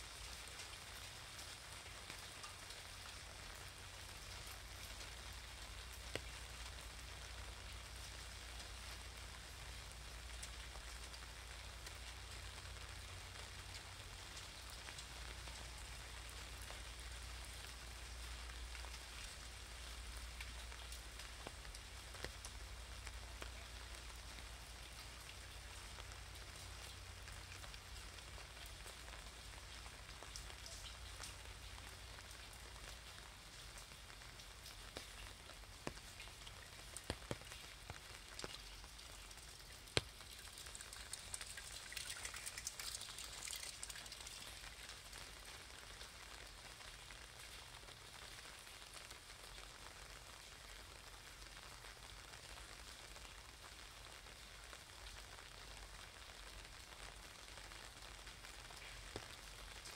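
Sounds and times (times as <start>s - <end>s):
light rain on wet pavement: 0.0s - 59.9s.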